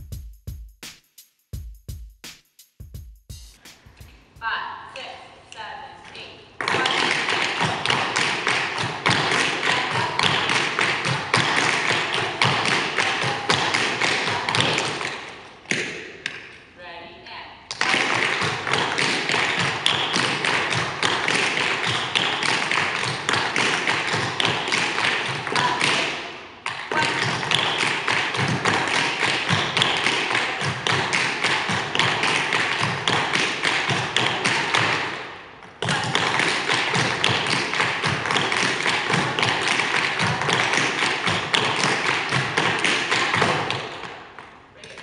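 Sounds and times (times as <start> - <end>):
tap shoes striking floor: 6.6 - 16.6, 17.7 - 44.6.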